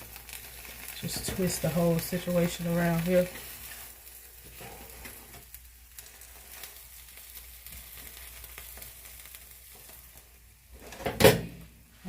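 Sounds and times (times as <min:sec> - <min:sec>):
omelet sizzling in a pan: 0:00.0 - 0:12.0.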